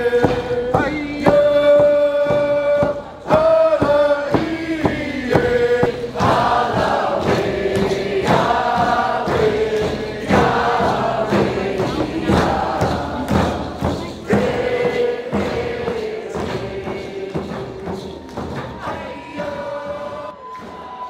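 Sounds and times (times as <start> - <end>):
frame hand drums beating: 0.0 - 21.0
group chanting in unison: 0.0 - 21.0.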